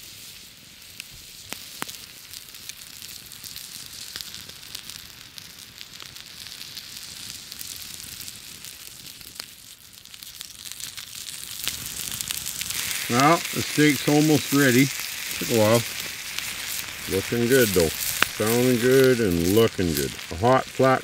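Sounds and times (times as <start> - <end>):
steak sizzling on hot rock: 0.0 - 21.0
wood fire crackling and popping: 0.0 - 21.0.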